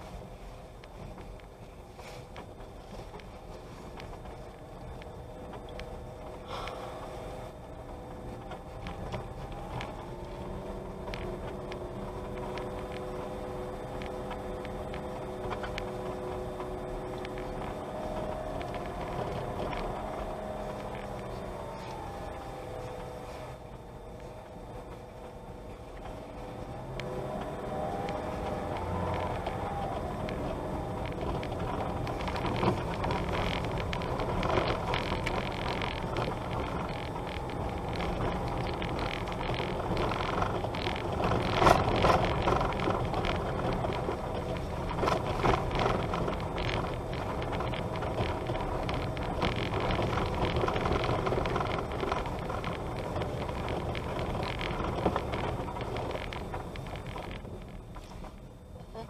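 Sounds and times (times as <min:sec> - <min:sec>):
vehicle rumbling on dirt road: 0:00.0 - 0:59.0.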